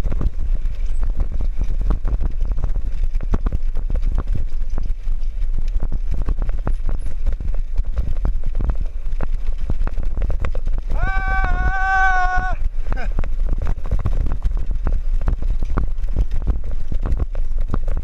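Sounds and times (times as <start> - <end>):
bicycle rattling on concrete: 0.0 - 18.0
wind rumble on microphone: 0.0 - 18.0.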